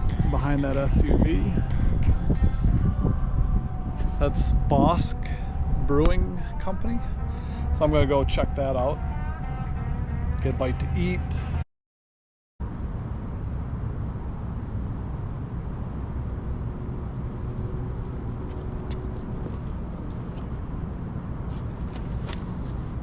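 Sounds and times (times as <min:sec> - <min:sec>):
vehicle engine and road noise: 0:00.0 - 0:11.6, 0:12.6 - 0:23.0.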